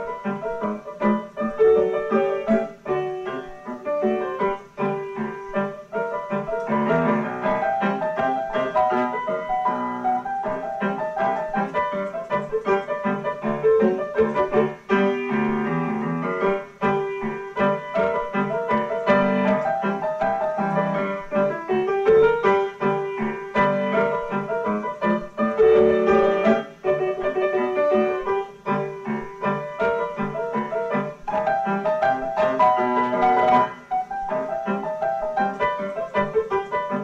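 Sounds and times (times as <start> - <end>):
background piano music: 0.0 - 37.0.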